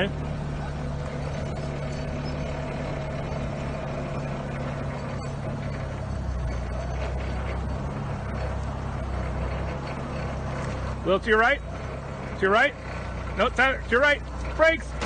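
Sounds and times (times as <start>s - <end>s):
forklift engine running: 0.0s - 15.0s
tyres rolling over gravel: 0.0s - 15.0s.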